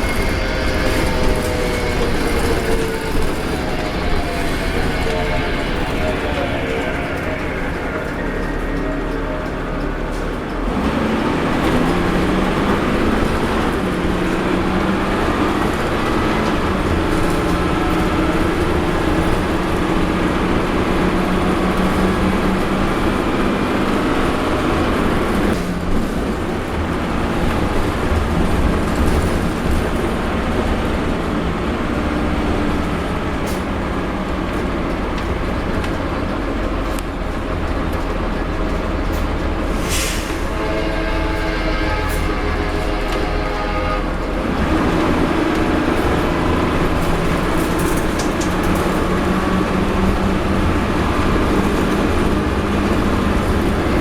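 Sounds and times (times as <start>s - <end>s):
bus retarder droning: 0.0s - 54.0s.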